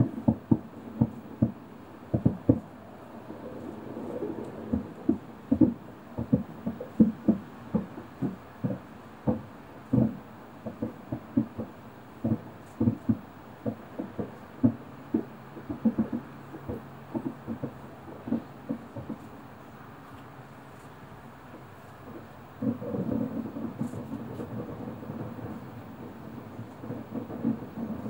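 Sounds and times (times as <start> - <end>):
distant fireworks booms: 0.0 - 28.0.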